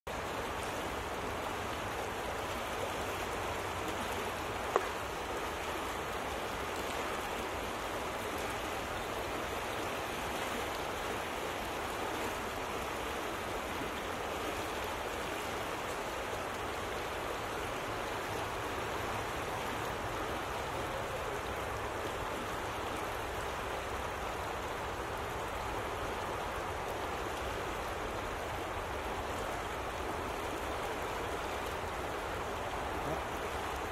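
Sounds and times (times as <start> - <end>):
water rushing and swirling: 0.1 - 33.9.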